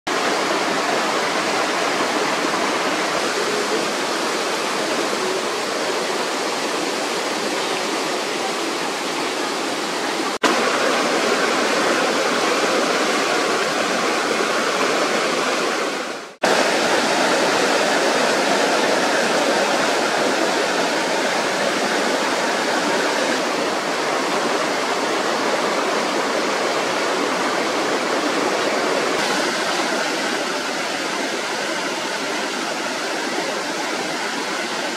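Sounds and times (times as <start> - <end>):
stream rushing over boulders: 0.1 - 34.9.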